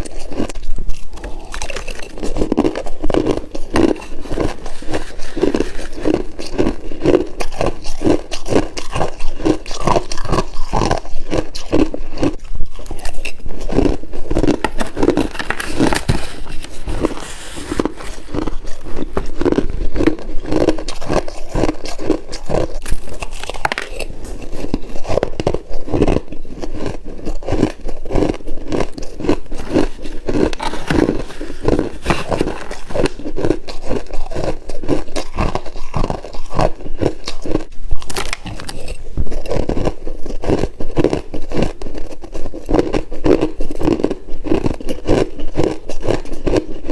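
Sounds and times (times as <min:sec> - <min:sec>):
frost being chewed: 0:00.0 - 0:46.9.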